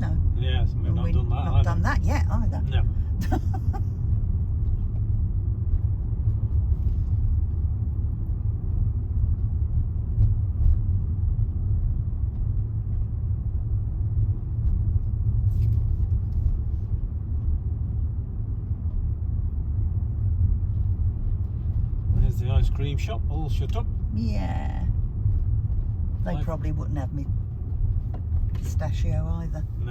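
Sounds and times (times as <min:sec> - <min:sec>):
road and engine rumble in car: 0:00.0 - 0:29.9.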